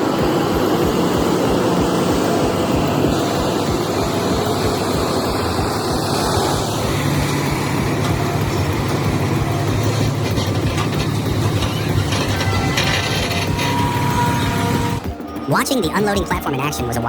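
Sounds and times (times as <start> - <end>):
heavy truck engine droning: 0.0 - 15.6.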